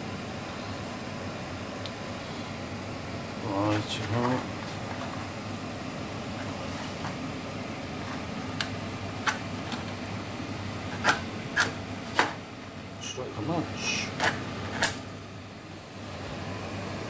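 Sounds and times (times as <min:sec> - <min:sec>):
extractor fan humming: 0:00.0 - 0:17.0.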